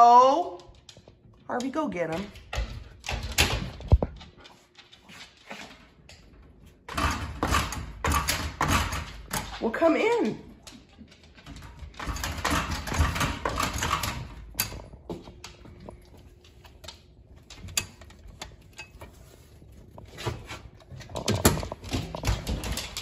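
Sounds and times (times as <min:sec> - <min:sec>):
dog claws clicking and scrabbling: 0:00.2 - 0:23.0.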